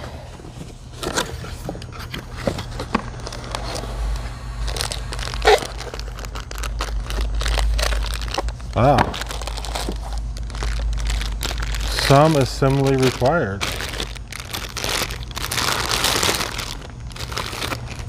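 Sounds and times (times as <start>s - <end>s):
packaging crinkling and rustling: 0.4s - 18.0s.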